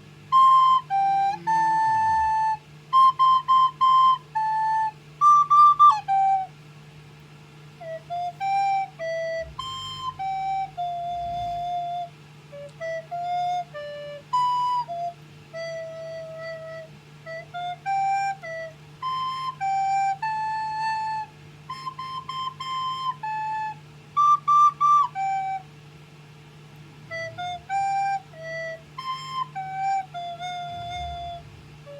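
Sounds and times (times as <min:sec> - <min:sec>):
recorder playing slow tune: 0:00.0 - 0:06.8, 0:07.6 - 0:31.9.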